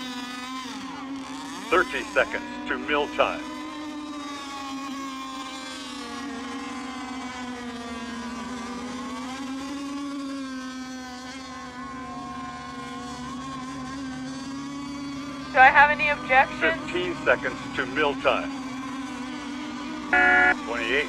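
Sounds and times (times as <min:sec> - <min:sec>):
model boat motors buzzing: 0:00.0 - 0:16.4, 0:17.0 - 0:21.0.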